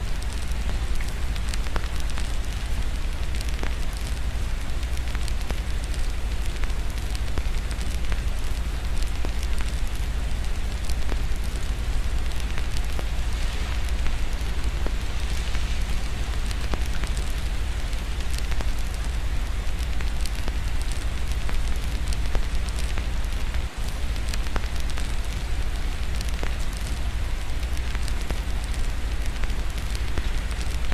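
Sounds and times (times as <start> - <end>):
rain hissing: 0.0 - 30.9
wood fire crackling: 0.0 - 30.9.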